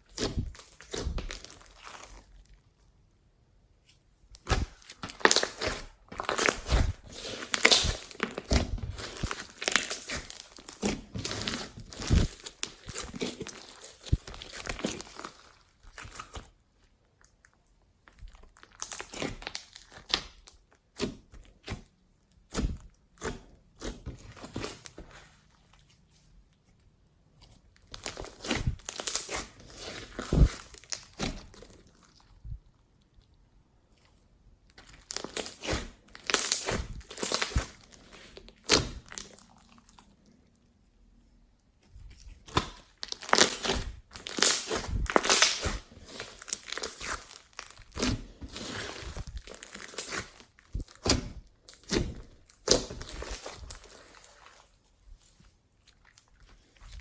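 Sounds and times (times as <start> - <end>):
slime squishing and crackling: 0.0 - 2.8, 4.3 - 26.0, 27.5 - 40.7, 41.6 - 57.0.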